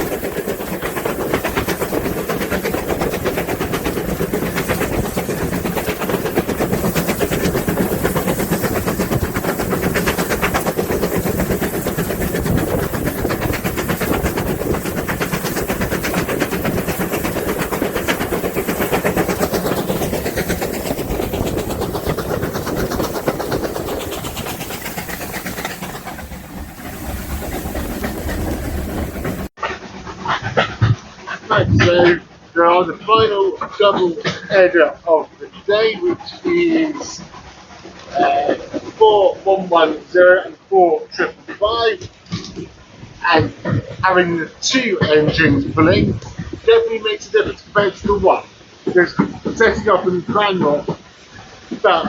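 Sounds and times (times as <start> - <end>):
train wheels clattering on rails: 0.0 - 52.0.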